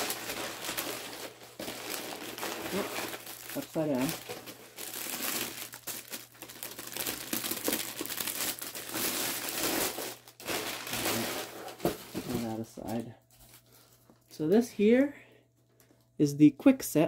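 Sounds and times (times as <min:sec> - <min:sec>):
plastic bag and paper crinkling: 0:00.0 - 0:15.0.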